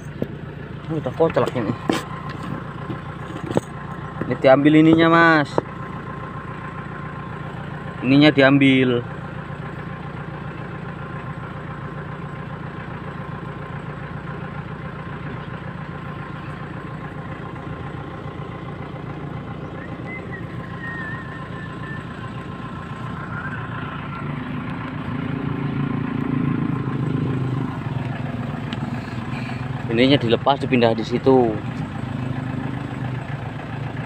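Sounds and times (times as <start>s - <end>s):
tractor engine idling: 0.0s - 34.0s.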